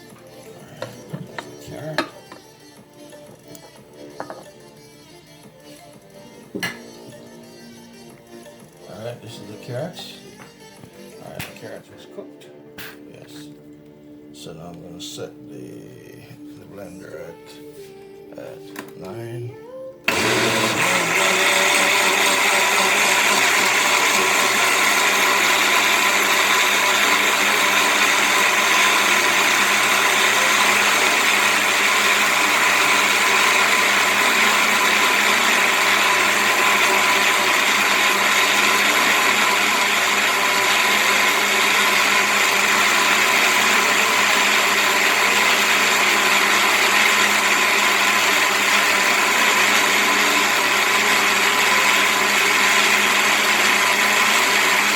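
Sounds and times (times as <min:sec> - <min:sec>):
blender running: 0:00.0 - 0:11.5, 0:20.1 - 0:54.9.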